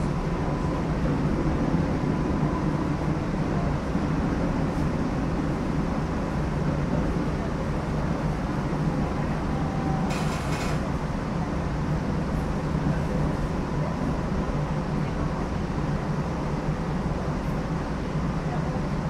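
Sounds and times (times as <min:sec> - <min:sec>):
streetcar rumbling on rails: 0:00.0 - 0:19.0.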